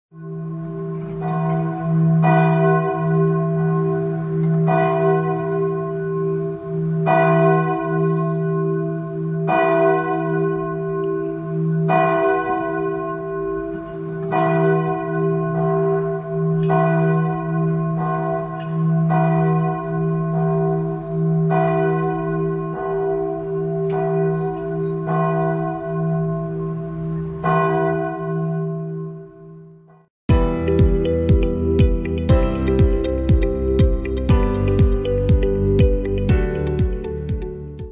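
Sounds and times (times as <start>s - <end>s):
church bells ringing: 0.1s - 37.9s.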